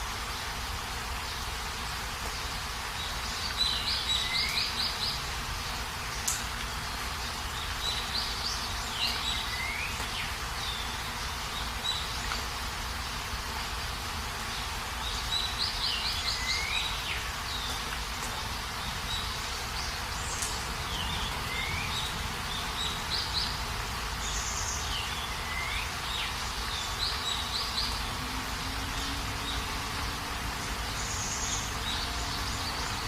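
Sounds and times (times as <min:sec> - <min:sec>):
rain hiss: 0:00.0 - 0:33.0
songbird singing: 0:00.0 - 0:33.0.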